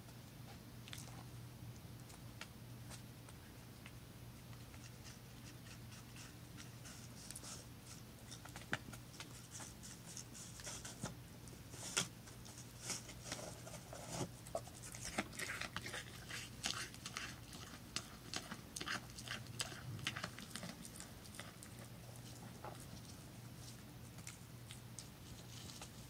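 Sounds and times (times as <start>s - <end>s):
deer chewing and crunching: 4.5s - 26.0s.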